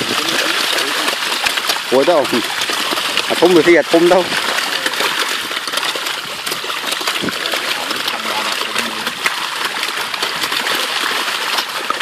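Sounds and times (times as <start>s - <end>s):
fish splashing at water surface: 0.0s - 12.0s.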